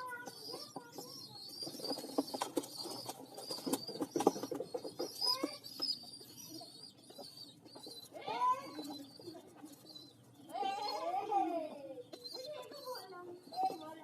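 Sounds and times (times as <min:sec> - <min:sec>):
pigeon squab squealing: 0:00.0 - 0:14.0.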